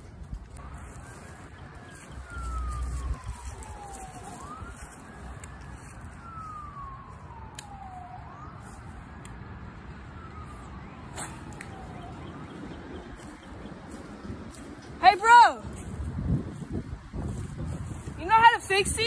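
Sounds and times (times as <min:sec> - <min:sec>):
emergency siren wailing: 0:00.5 - 0:19.0.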